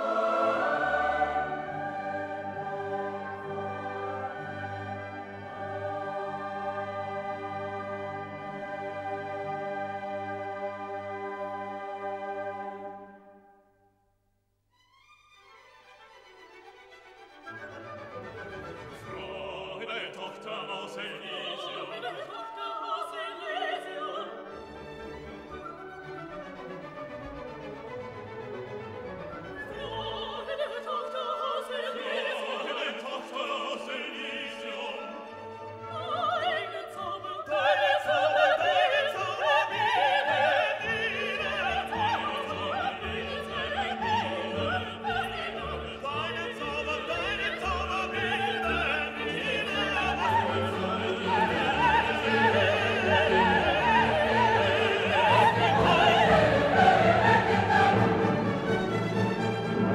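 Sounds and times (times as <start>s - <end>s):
orchestral music with operatic singing: 0.0s - 13.6s, 15.4s - 59.9s.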